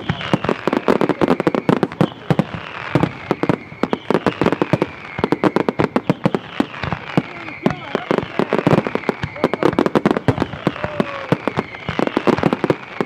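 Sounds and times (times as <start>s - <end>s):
firework crackle: 0.0s - 13.0s.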